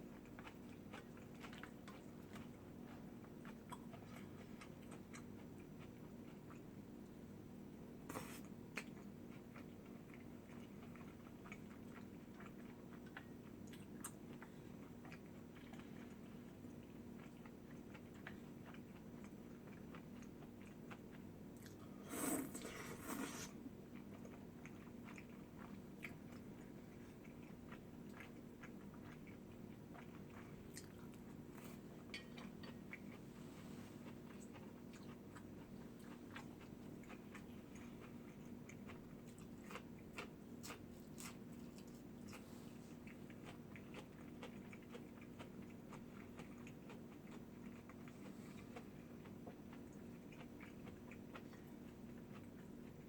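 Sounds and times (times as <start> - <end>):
person chewing food: 0.0 - 7.2, 8.0 - 53.0
faint steady hum: 0.0 - 53.0.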